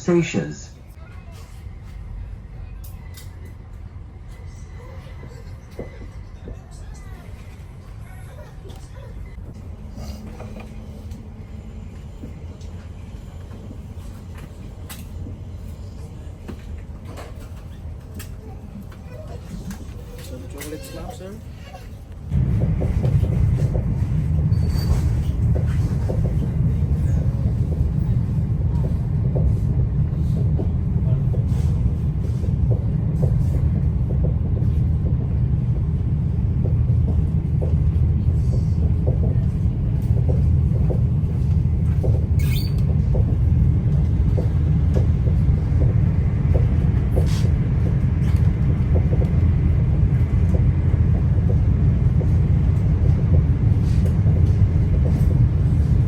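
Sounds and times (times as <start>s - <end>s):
train cabin rumble: 0.0s - 56.0s.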